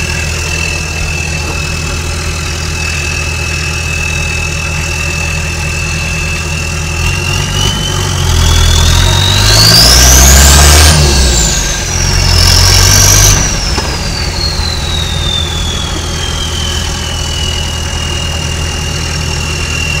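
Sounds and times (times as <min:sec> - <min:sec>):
turbo diesel engine idling: 0:00.0 - 0:09.3, 0:11.1 - 0:20.0
turbo whistle: 0:00.0 - 0:20.0.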